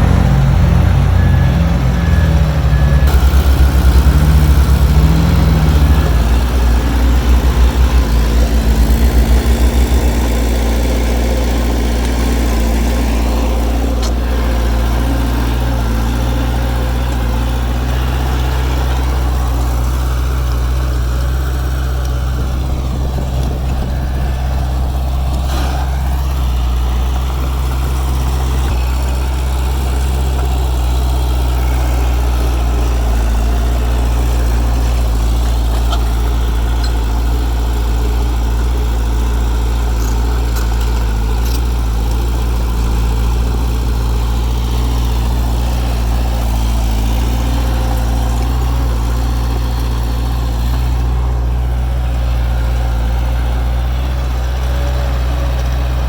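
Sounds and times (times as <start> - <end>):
heavy diesel engine: 0.0 - 56.0.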